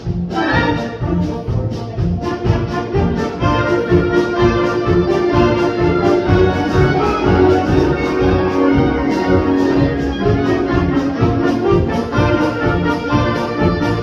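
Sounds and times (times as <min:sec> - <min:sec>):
concert band playing: 0:00.0 - 0:14.0.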